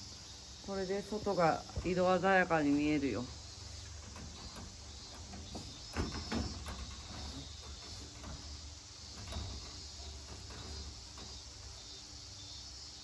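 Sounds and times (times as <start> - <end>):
crickets chirping: 0.0 - 13.0
window screen frame knocks: 1.3 - 12.5.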